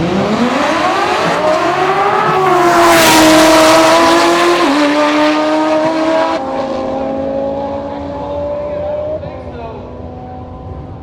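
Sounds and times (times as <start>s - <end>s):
drag car engine at full throttle: 0.0s - 11.0s.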